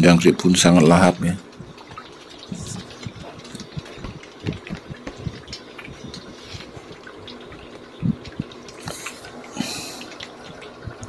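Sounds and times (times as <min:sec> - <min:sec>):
fish splashing at water surface: 0:01.4 - 0:11.0.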